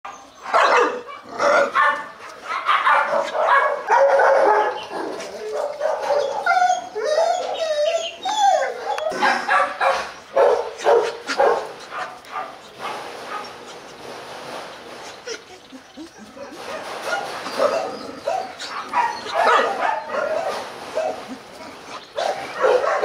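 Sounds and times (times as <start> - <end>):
dogs barking and yipping: 0.1 - 23.0
dogs whining: 2.9 - 14.0, 15.0 - 23.0.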